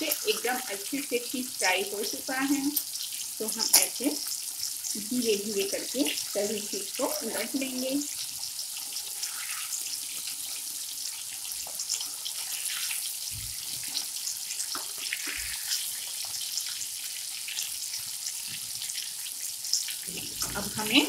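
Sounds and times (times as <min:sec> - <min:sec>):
fish frying in oil: 0:00.0 - 0:21.0.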